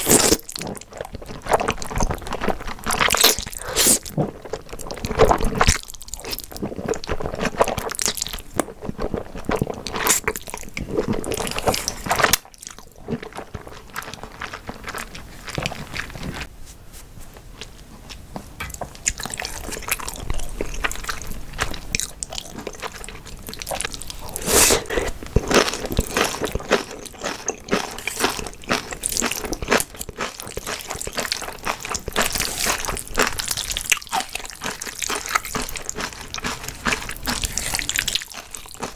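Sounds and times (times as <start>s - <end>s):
noodles slurped and chewed: 0.0s - 16.5s, 18.6s - 38.9s.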